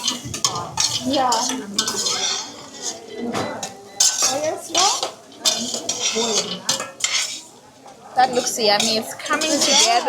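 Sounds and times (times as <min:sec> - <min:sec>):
metal utensil scraping a pan: 0:00.0 - 0:07.6, 0:08.2 - 0:10.0.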